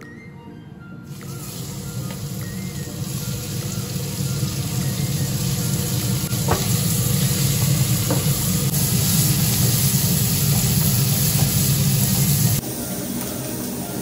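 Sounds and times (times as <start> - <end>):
onions sizzling in a pan: 1.2 - 14.0.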